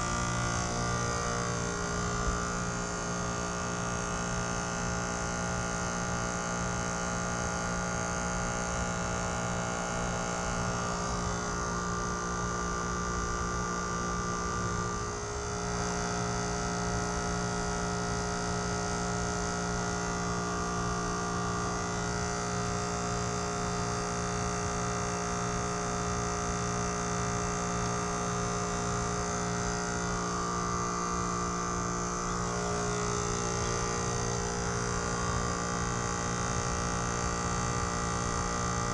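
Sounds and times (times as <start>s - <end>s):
heat pump compressor humming: 0.0s - 38.9s.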